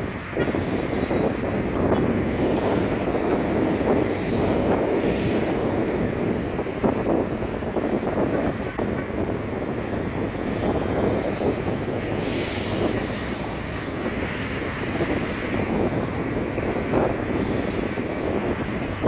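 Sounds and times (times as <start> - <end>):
sea surf: 0.0 - 8.0, 8.6 - 19.0
traffic noise: 0.0 - 19.0
wind buffeting microphone: 0.0 - 19.0.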